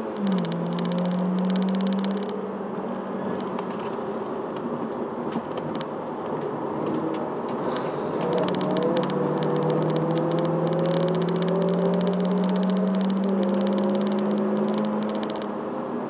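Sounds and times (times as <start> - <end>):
car engine at speed: 0.0 - 16.0
road and wind noise: 0.0 - 16.0.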